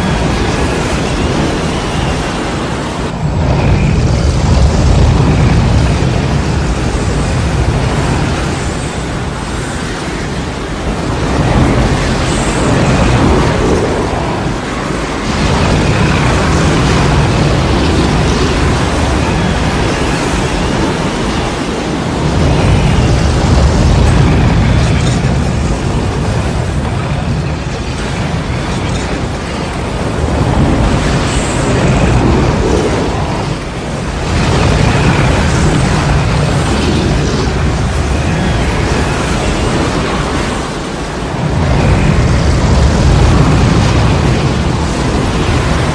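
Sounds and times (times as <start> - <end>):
rushing wind with low rumble: 0.0 - 45.9.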